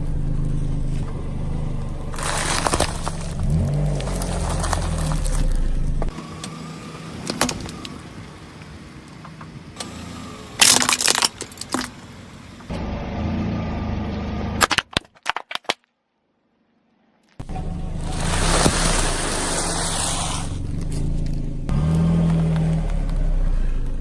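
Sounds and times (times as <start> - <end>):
tyres crunching over objects: 0.0 - 6.5, 7.2 - 12.7, 14.6 - 15.9, 17.3 - 24.0
car engine running: 0.0 - 14.6, 17.4 - 24.0.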